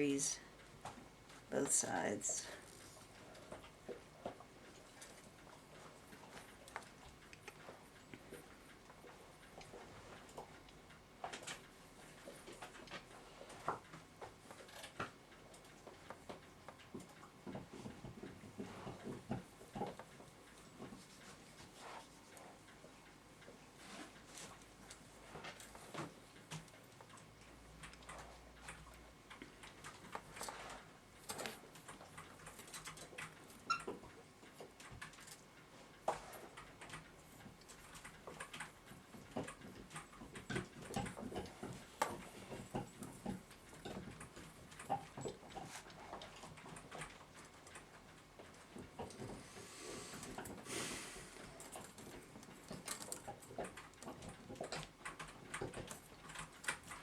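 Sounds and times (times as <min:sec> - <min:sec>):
small clicks and scrapes: 0:02.4 - 0:57.0.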